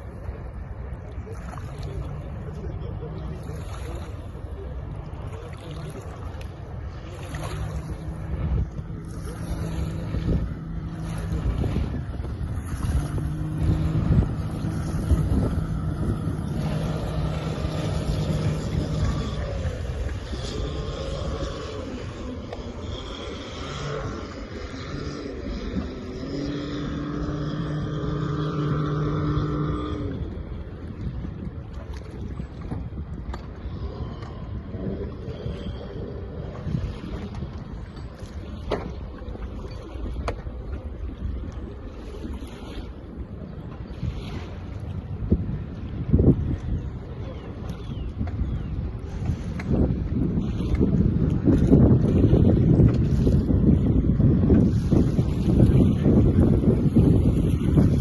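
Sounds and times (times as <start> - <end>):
outboard motor running: 0.0 - 58.0
water rushing against hull: 0.0 - 58.0
water splashes: 0.0 - 58.0
wind buffeting microphone: 0.0 - 58.0.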